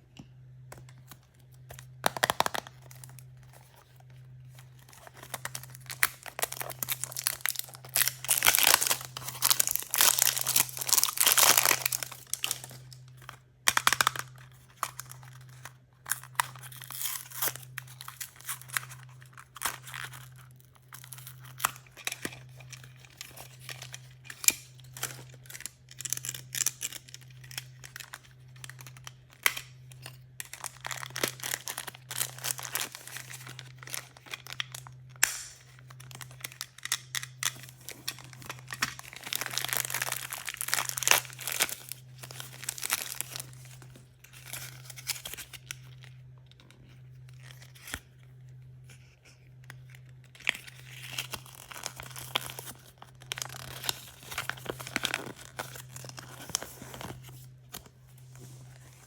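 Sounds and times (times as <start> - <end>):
packaging torn and crinkled: 0.9 - 48.1, 49.6 - 57.9.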